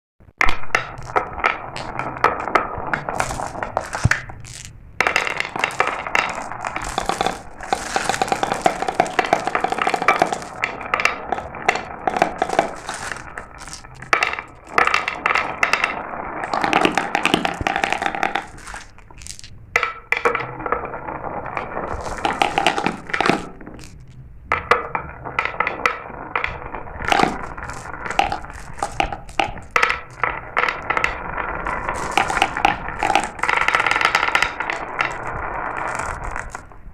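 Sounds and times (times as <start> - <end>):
marbles rolling and clattering: 0.4 - 36.9.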